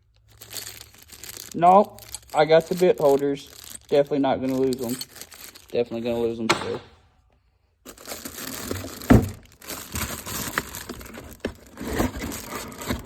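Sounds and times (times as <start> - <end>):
packaging crinkling: 0.1 - 6.4, 7.9 - 13.0.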